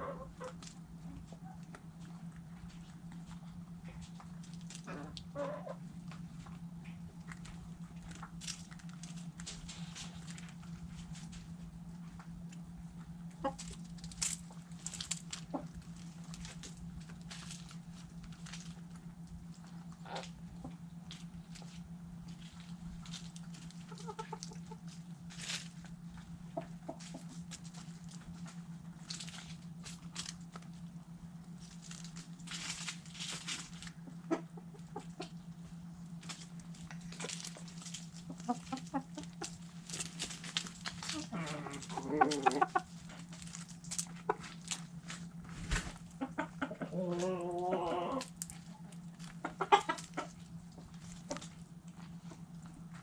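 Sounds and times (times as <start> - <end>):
hens clucking: 0.0 - 53.0
steady low hum: 0.0 - 53.0.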